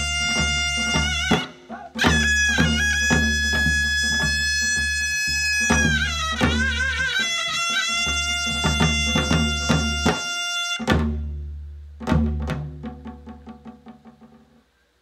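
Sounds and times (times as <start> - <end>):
double-reed shawm playing: 0.0 - 14.6
drum strokes: 0.0 - 14.8.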